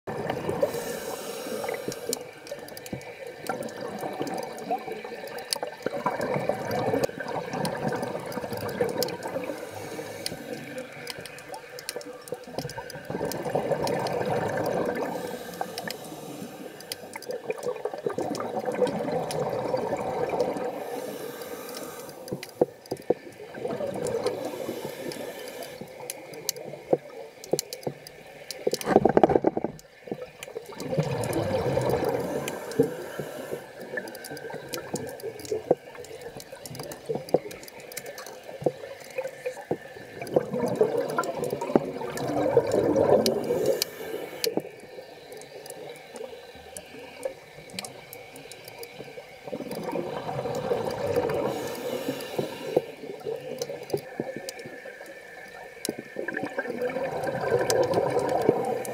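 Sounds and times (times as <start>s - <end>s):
underwater exhaled bubbles: 0.1s - 58.9s.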